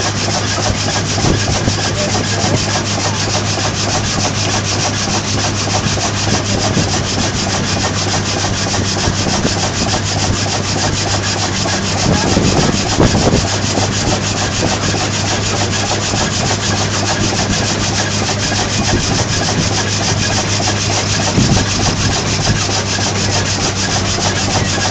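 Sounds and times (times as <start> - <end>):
low mechanical hum: 0.0 - 24.9
saw cutting log: 0.0 - 24.9.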